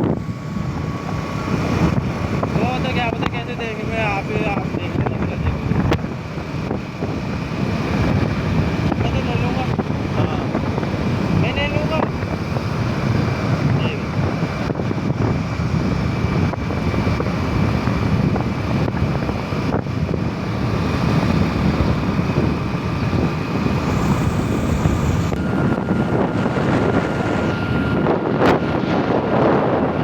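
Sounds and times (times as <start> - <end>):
faint whines: 0.0 - 30.0
low rumble: 0.0 - 30.0
wind noise on microphone: 0.0 - 30.0.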